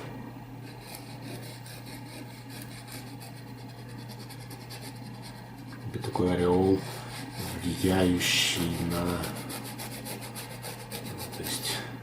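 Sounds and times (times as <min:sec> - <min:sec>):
steady low hum: 0:00.0 - 0:12.0
paintbrush scrubbing on canvas: 0:00.7 - 0:11.8.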